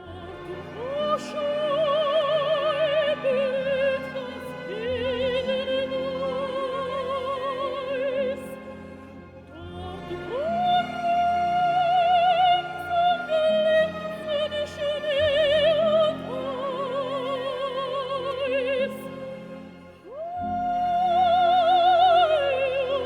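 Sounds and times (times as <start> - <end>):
operatic soprano singing: 0.0 - 23.0.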